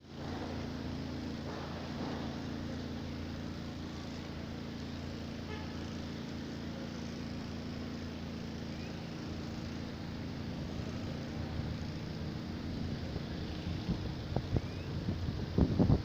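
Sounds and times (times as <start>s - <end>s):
low motor-like hum: 0.0s - 16.0s.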